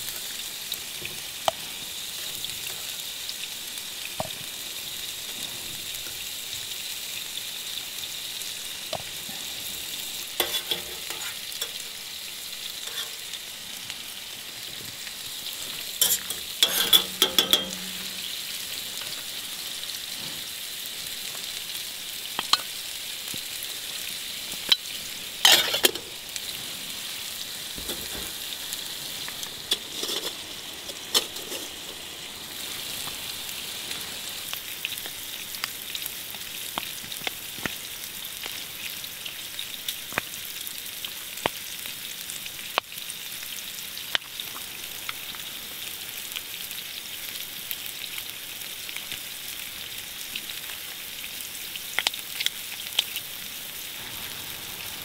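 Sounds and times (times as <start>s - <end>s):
steak sizzling in a frying pan: 0.0s - 55.0s.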